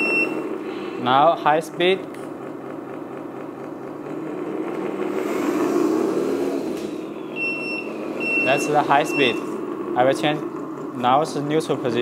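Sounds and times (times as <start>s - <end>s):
simulated truck engine sound: 0.0s - 12.0s.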